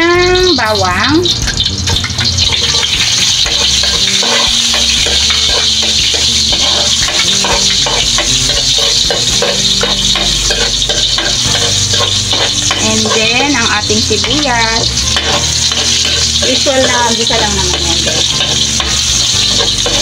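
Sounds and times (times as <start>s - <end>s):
garlic sizzling in oil: 0.0s - 20.0s
metal spatula scraping and tapping pan: 1.5s - 20.0s.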